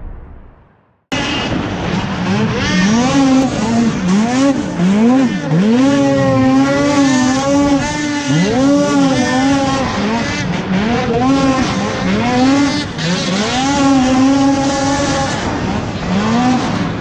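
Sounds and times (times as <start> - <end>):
snowmobile engine revving: 1.1 - 17.0.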